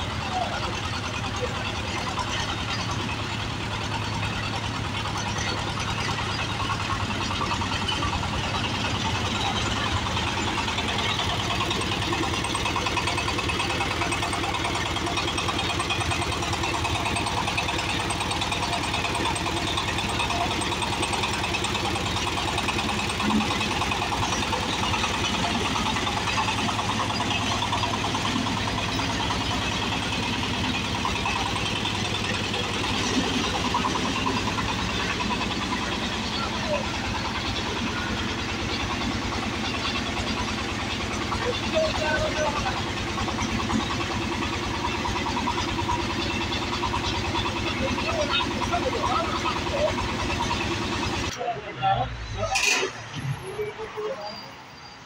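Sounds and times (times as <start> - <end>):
small diesel engine chugging: 0.0 - 55.0.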